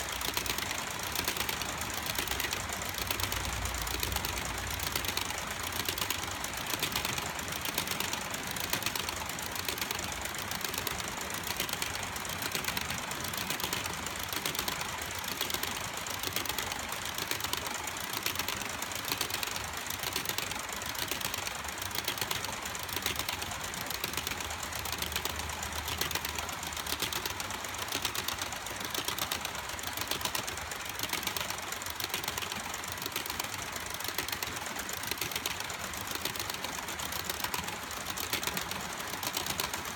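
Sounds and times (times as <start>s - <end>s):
model train wheels clattering: 0.0s - 39.9s.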